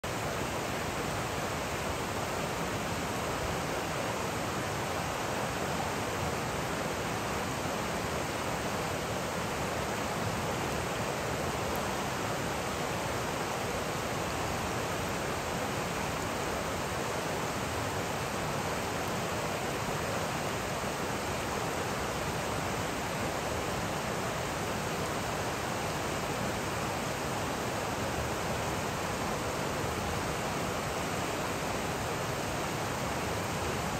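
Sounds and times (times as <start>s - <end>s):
river rushing over stones: 0.0s - 33.9s.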